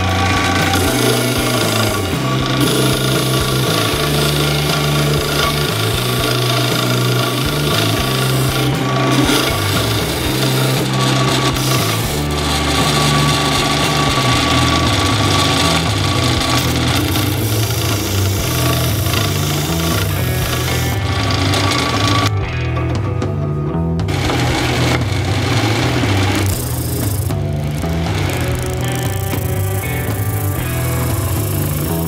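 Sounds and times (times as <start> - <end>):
machine running hum: 0.0 - 22.4, 24.0 - 32.0.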